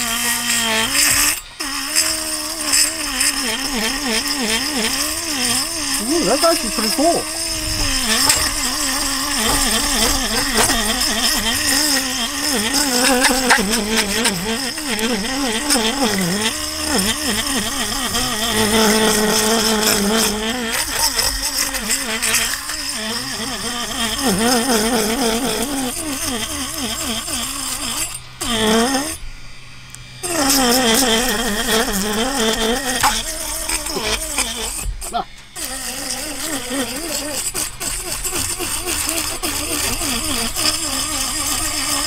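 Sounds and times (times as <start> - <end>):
electric fish scaler whine: 0.0 - 42.0
scraping hiss: 0.0 - 42.0.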